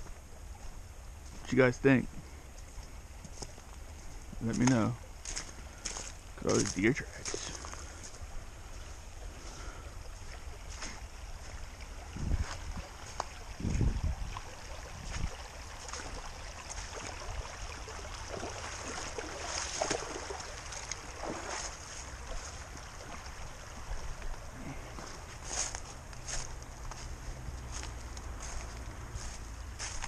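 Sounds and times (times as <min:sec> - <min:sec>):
footsteps crunching through leaves: 0:00.0 - 0:17.3, 0:18.4 - 0:30.0
babbling creek: 0:00.0 - 0:30.0.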